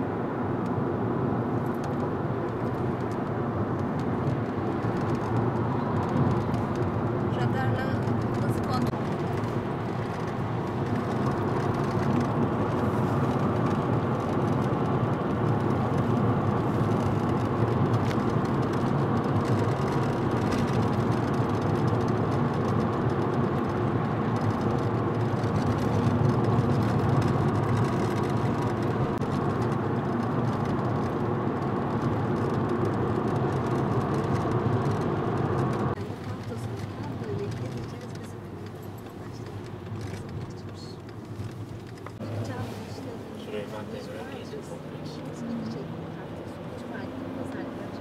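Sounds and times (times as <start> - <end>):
car engine and road noise: 0.0 - 48.0
tyres on wet asphalt: 0.0 - 48.0.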